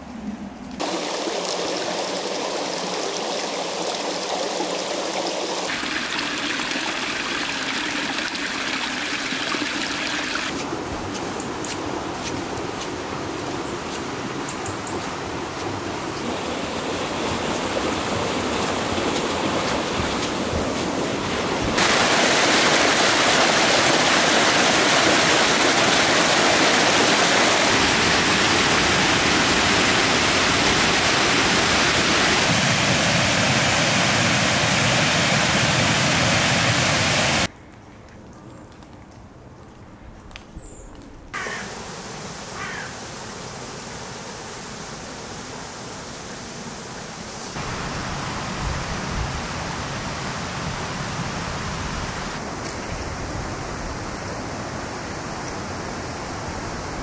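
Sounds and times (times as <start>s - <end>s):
stream rushing: 0.0s - 37.5s, 41.4s - 57.0s
churning white water: 0.8s - 37.5s, 41.4s - 57.0s.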